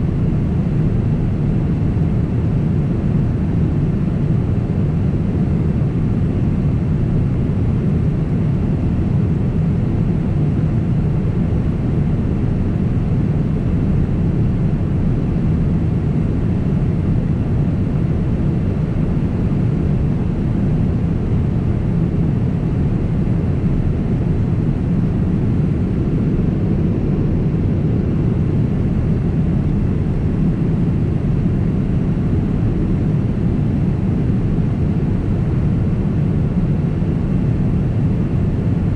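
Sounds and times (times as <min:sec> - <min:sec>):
aircraft cabin engine roar: 0:00.0 - 0:38.9.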